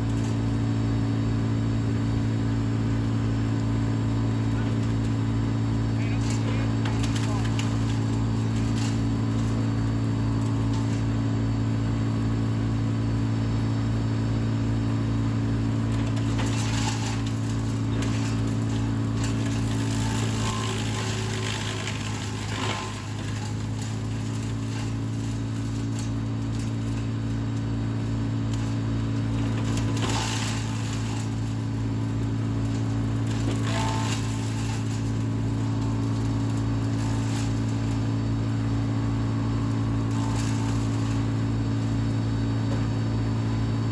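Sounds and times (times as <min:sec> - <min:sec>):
wood chipper engine running: 0:00.0 - 0:43.9.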